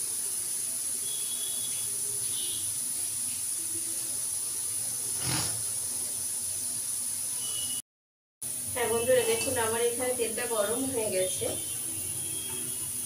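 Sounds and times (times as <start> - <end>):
gas burner hissing: 0.0 - 7.8, 8.5 - 13.0.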